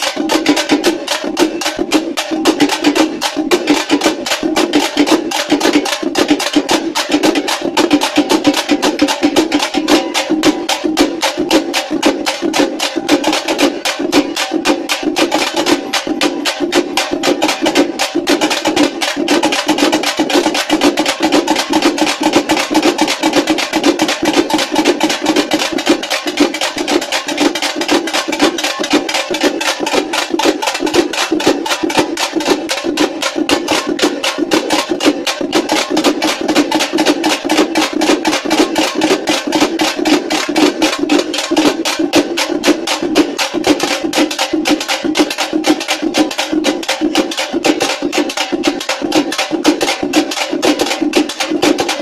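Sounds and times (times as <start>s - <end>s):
frame drums beaten with sticks: 0.0s - 52.0s.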